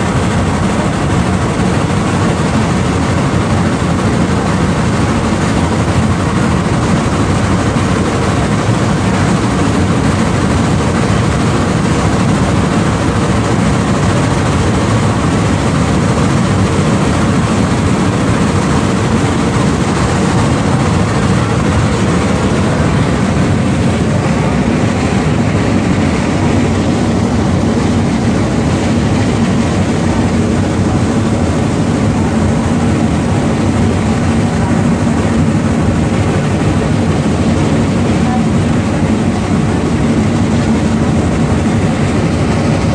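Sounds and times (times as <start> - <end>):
steam locomotive running: 0.0 - 42.9.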